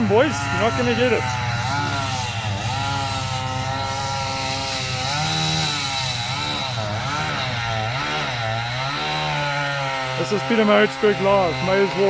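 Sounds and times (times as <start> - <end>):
chainsaw cutting through tree: 0.0 - 12.0.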